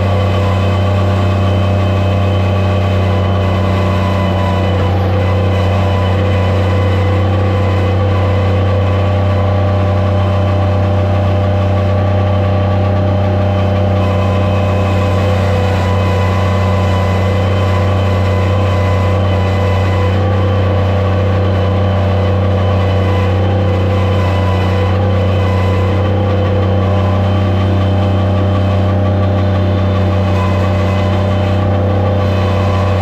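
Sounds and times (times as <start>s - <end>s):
loader engine running: 0.0s - 33.0s.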